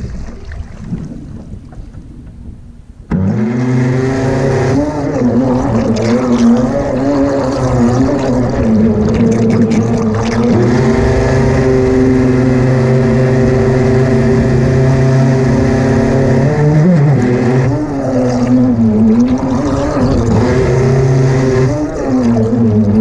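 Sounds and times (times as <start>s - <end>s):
water rushing past hull: 0.0s - 23.0s
small boat motor running: 3.1s - 23.0s.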